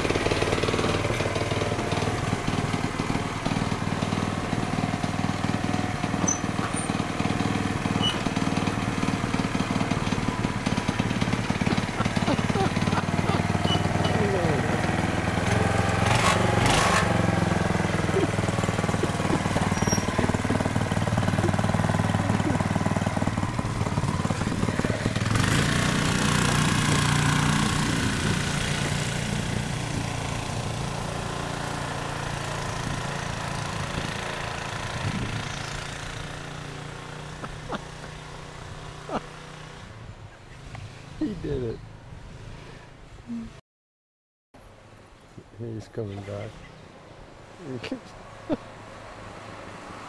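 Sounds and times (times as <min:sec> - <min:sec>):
go-kart engine running: 0:00.0 - 0:42.7, 0:47.6 - 0:50.0.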